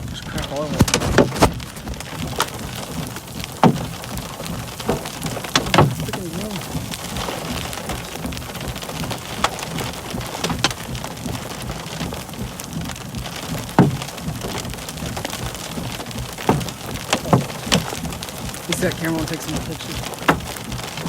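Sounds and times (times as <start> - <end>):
drops tapping close by: 0.0 - 21.0
steady rain falling: 0.0 - 21.0.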